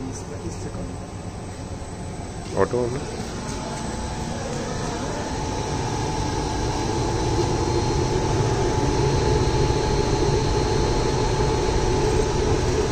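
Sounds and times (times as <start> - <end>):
blower fan humming: 0.0 - 12.9
thin steady whine: 0.0 - 12.9.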